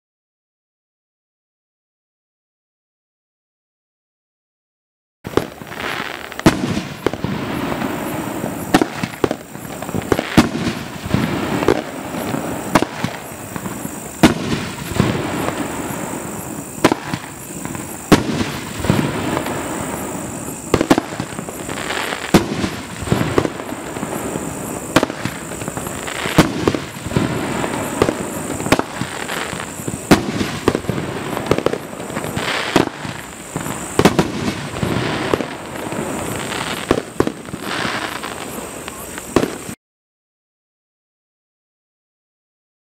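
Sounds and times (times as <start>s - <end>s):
rushing noise of fireworks: 5.2s - 39.8s
fireworks bursting with sharp bangs: 5.3s - 39.8s.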